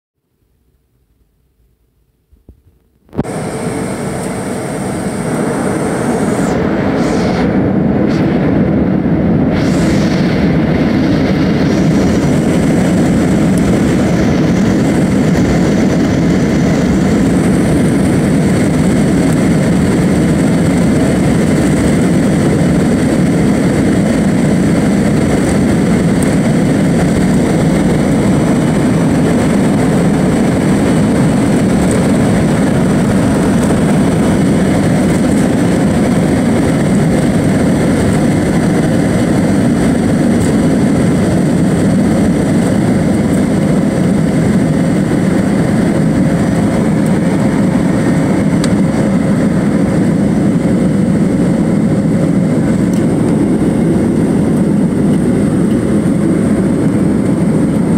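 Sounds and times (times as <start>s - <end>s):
faint high engine whine: 0.2s - 57.9s
jet engines roaring at takeoff: 2.9s - 57.9s.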